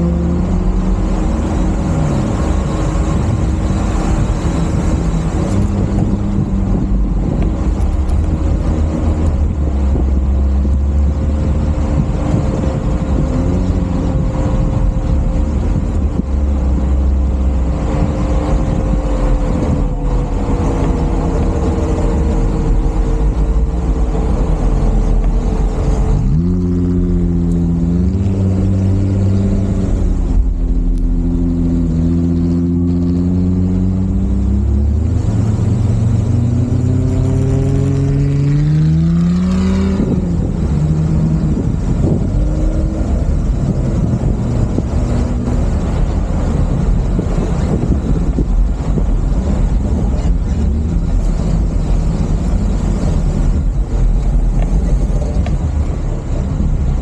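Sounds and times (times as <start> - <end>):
car engine working hard: 0.0 - 57.0
noisy rumble: 0.0 - 57.0.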